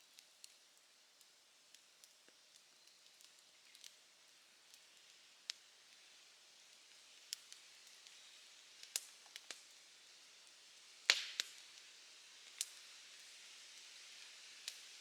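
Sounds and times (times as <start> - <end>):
campfire crackling: 0.2 - 15.0.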